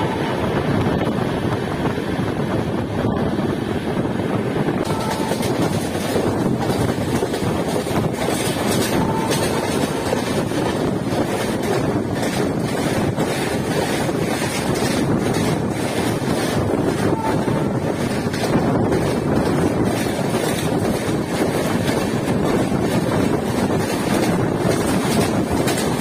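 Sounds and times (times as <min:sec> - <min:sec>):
train wheels rumbling on rails: 0:00.0 - 0:26.0
wind buffeting microphone: 0:00.0 - 0:26.0.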